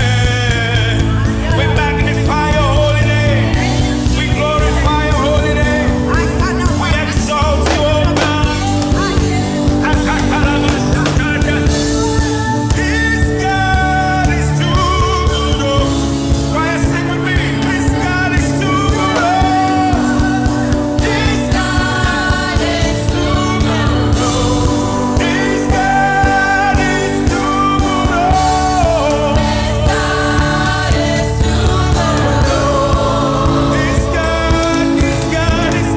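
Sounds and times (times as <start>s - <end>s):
gospel band with steady beat: 0.0s - 35.9s
person singing: 0.0s - 35.9s.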